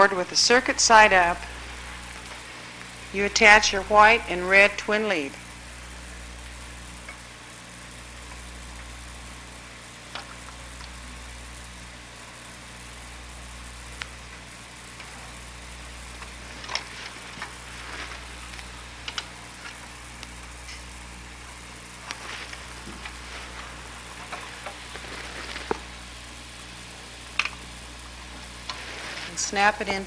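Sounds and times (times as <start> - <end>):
low mains hum: 0.0 - 30.0
videotape hiss: 0.0 - 30.0.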